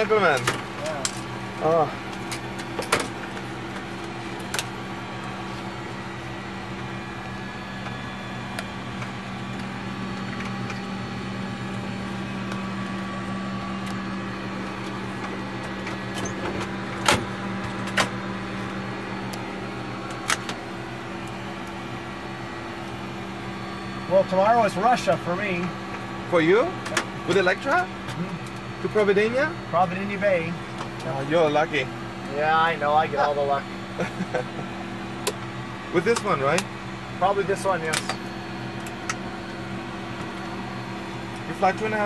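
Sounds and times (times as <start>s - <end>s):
aircraft systems humming: 0.0s - 42.0s.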